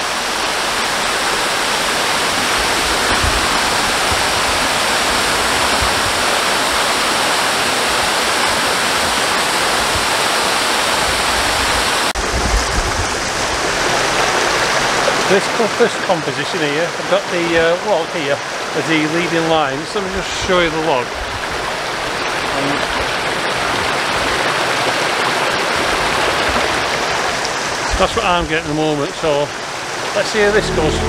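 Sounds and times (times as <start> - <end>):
waterfall rushing: 0.0 - 28.0, 28.8 - 31.0.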